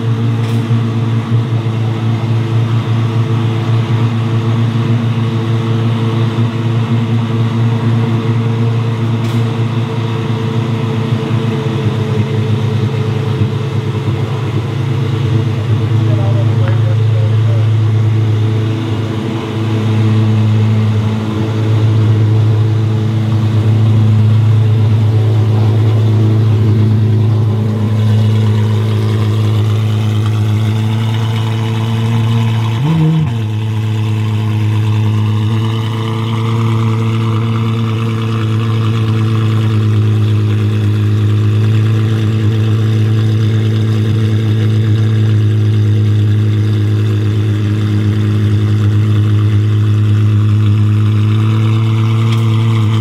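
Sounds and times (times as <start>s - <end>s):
car engine idling with rev blip: 0.0s - 53.0s.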